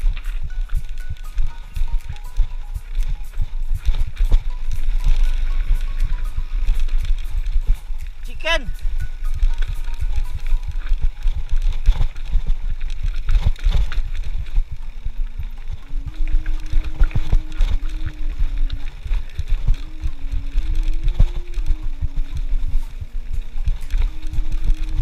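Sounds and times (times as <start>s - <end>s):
faint tune of stepped notes: 0.0s - 25.0s
wind buffeting microphone: 0.0s - 25.0s.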